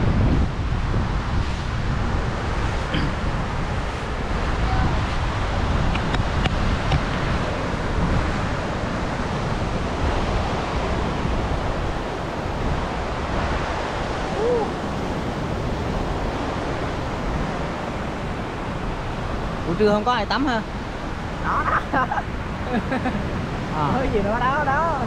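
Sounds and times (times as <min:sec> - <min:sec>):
sea surf on beach: 0:00.0 - 0:25.0
wind buffeting microphone: 0:00.0 - 0:25.0.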